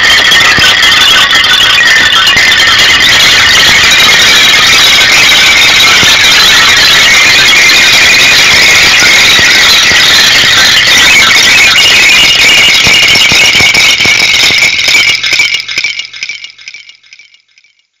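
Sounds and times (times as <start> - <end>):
distorted noise music: 0.0 - 17.8
scattered crackles: 0.0 - 17.8.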